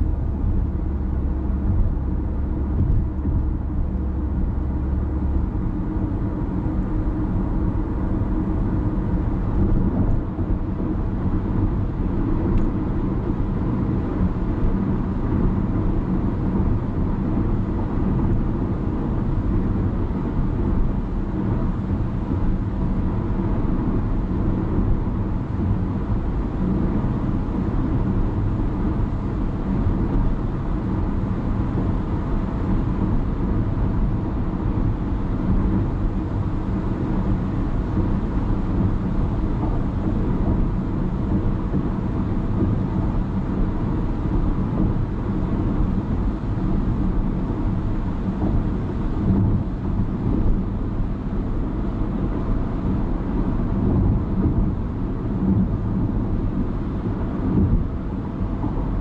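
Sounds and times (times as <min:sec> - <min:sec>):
car driving on highway: 0:00.0 - 0:59.0.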